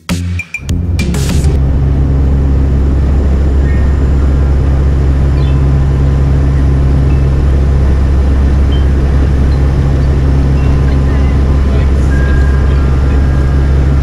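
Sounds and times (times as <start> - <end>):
low propeller hum: 0.6 - 14.0
turboprop engines droning: 0.6 - 14.0.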